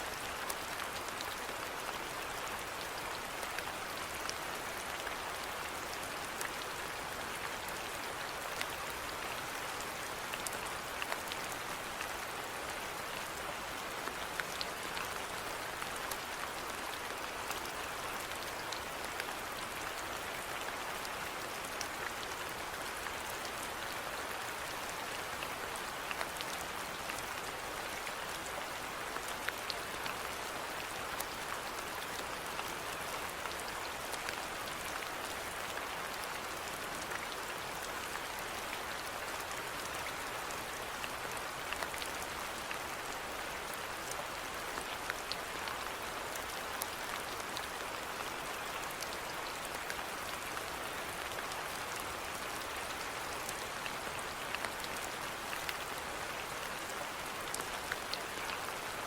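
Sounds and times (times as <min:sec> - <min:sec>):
steady rainfall hiss: 0:00.0 - 0:59.0.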